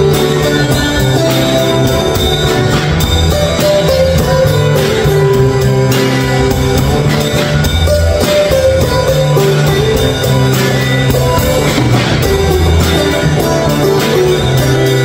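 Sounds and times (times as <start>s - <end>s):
acoustic guitars strumming: 0.0s - 15.0s
drum kit playing: 0.0s - 15.0s.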